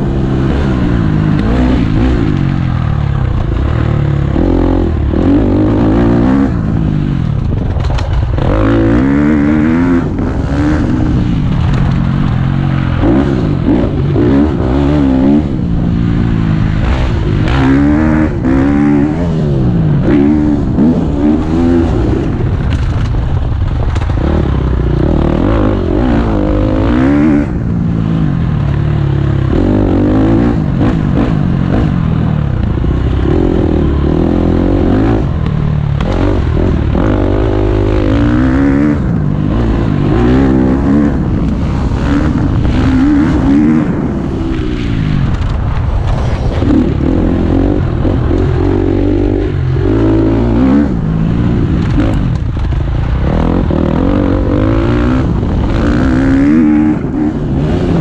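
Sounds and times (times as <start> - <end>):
motocross engine revving: 0.0 - 23.0, 23.9 - 45.8, 46.5 - 58.0.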